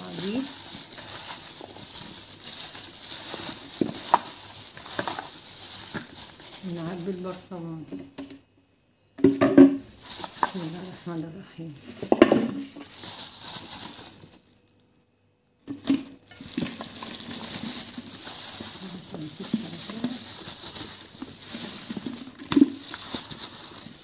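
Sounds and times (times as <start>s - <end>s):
vegetables tossed in plastic bowl: 0.0s - 8.3s, 9.7s - 14.6s, 15.6s - 24.0s
plastic glove crinkling: 0.0s - 8.4s, 9.8s - 24.0s.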